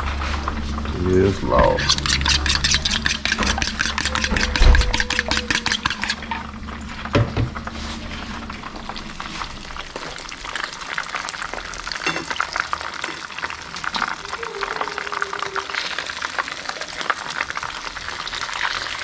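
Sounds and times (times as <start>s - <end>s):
food sizzling in a pan: 1.8s - 19.0s.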